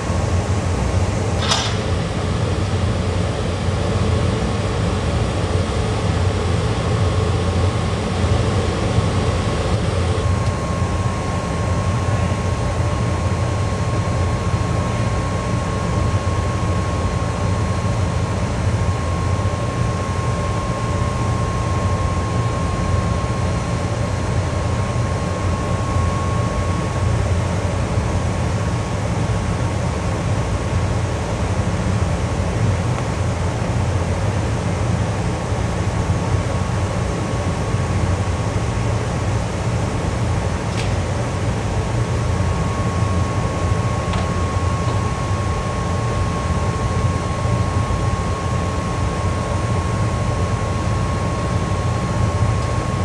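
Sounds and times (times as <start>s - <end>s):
cooling blowers humming: 0.0s - 53.0s
thin steady whine: 0.0s - 53.0s.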